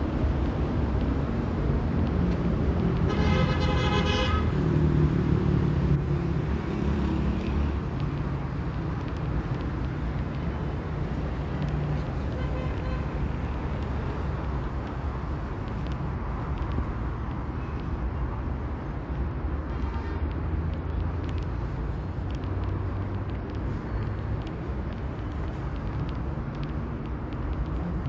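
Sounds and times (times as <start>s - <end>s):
motor vehicle rumbling: 0.0s - 28.0s.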